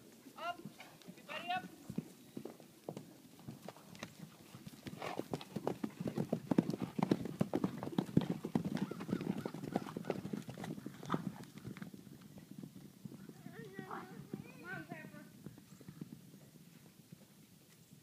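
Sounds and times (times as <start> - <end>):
horse hooves striking: 0.5 - 17.8.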